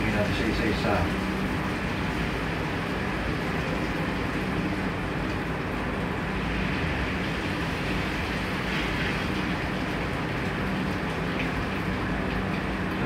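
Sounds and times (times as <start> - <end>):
constant low hum: 0.0 - 13.0.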